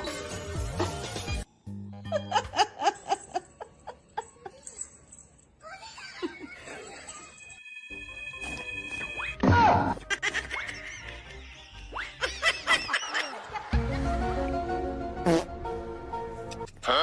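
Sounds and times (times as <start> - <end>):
background music: 0.0 - 5.2, 6.5 - 17.0.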